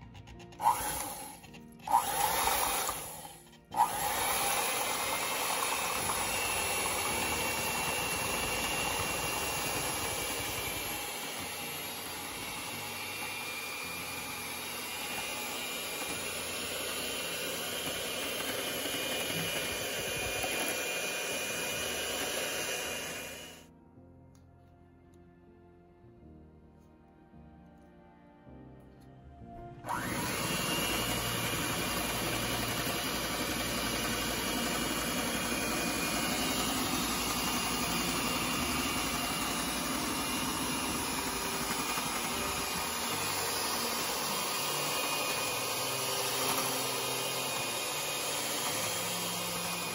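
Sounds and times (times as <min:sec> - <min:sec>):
electric hand mixer whisking: 0:00.0 - 0:23.6, 0:29.9 - 0:49.9.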